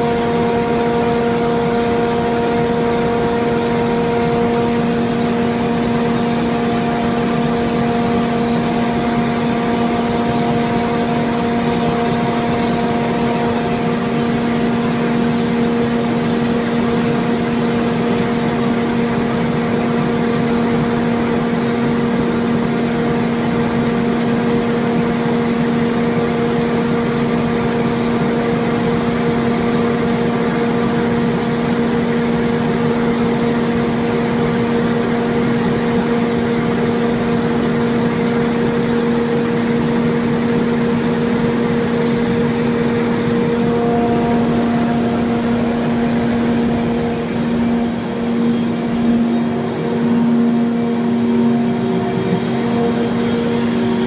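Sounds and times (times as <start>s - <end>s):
diesel generator drone: 0.0s - 54.0s.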